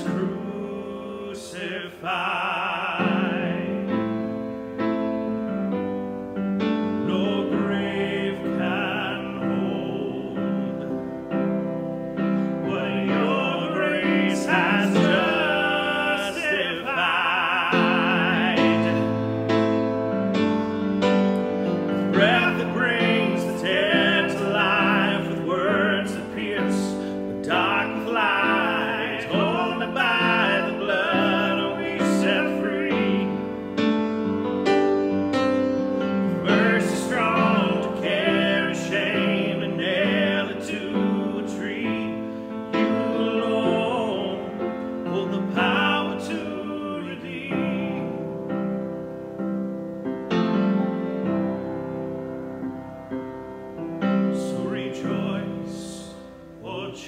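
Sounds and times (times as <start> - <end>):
man singing a hymn: 0.0 - 4.6, 6.6 - 48.9, 54.1 - 57.0
piano accompaniment: 0.0 - 57.0.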